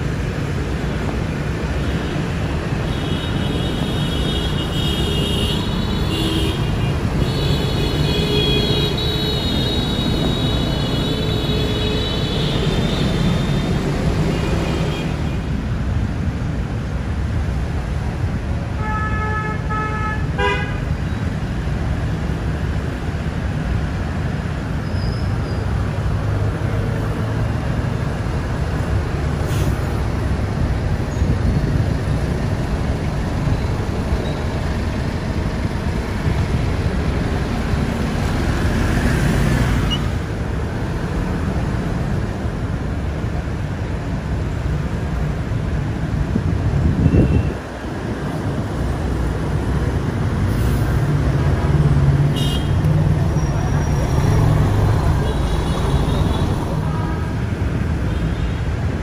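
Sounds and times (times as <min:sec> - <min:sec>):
bus engines running: 0:00.0 - 0:59.0.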